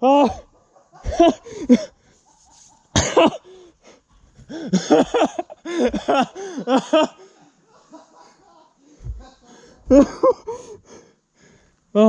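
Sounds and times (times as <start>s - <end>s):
people laughing: 0.1s - 3.5s, 4.5s - 10.8s.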